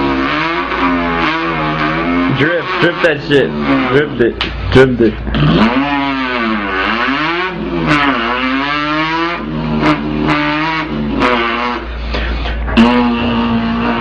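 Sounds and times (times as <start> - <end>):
boy imitating car engine: 0.0 - 14.0.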